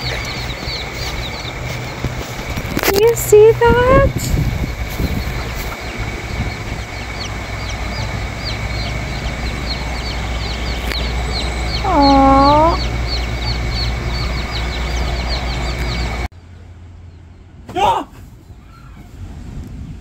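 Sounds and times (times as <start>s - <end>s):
chicks peeping: 0.0s - 16.3s.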